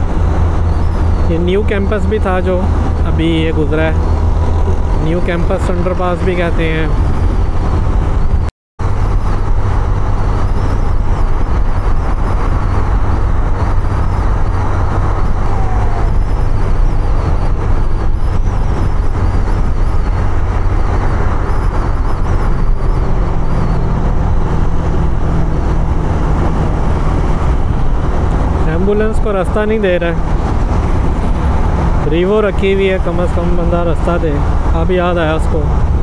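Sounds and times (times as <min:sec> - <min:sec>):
motorcycle engine cruising: 0:00.0 - 0:36.0
road noise: 0:00.0 - 0:36.0
wind rush: 0:00.0 - 0:36.0.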